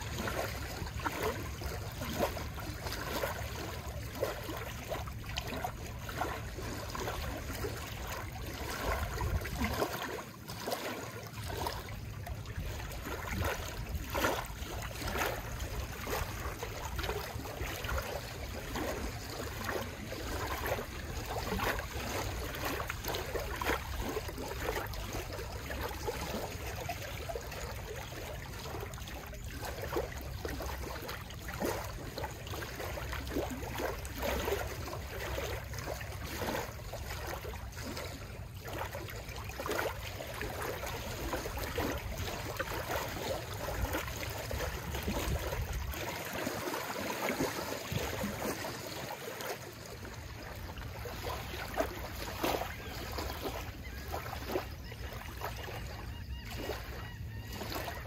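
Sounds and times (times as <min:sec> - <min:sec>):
small waves lapping on a dock: 0:00.0 - 0:58.0.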